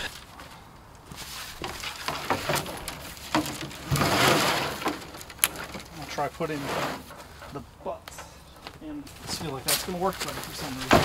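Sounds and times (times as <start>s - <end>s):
sharp cracks and knocks: 0.0s - 6.1s, 8.0s - 11.0s
tree branches rustling and scraping: 0.0s - 11.0s.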